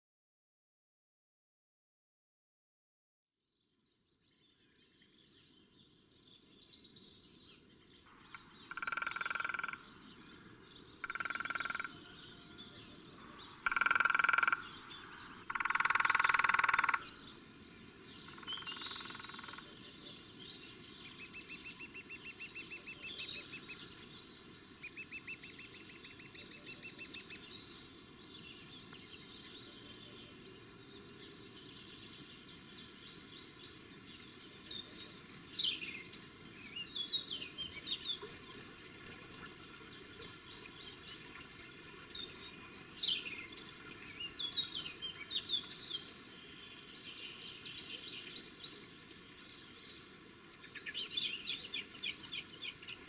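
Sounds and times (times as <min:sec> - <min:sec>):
birds chirping and trilling: 0:04.1 - 0:53.0.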